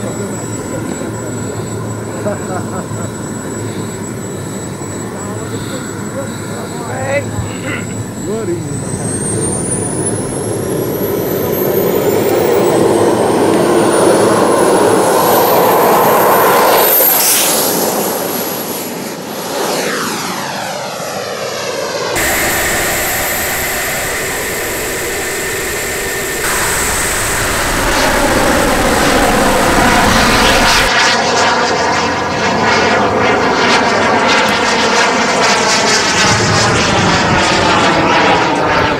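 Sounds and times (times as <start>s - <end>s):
model jet engines whining: 0.0s - 38.9s.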